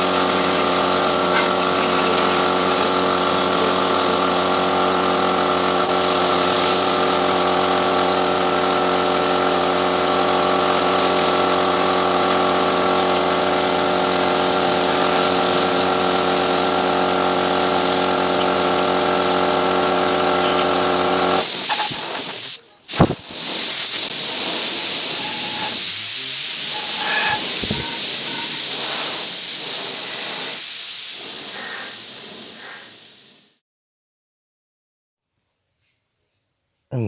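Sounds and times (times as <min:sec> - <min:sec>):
air compressor humming: 0:00.0 - 0:33.4
paint spray gun hissing: 0:00.0 - 0:33.6.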